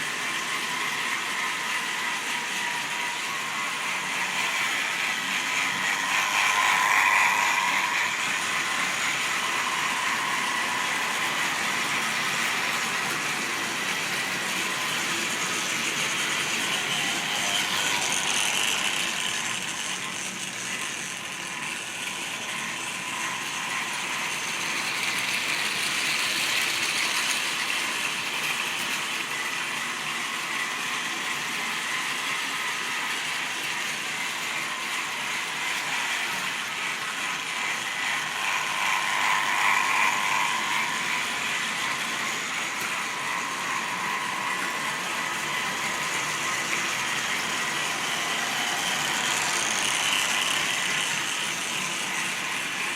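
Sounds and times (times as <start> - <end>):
model train motor whirr: 0.0 - 52.9
wheels clicking on rail joints: 0.0 - 52.9.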